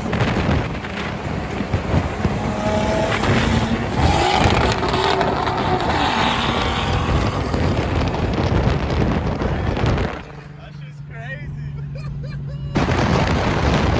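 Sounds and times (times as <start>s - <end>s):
wind noise on microphone: 0.0s - 10.5s, 12.7s - 13.9s
car engines rumbling: 0.0s - 13.9s.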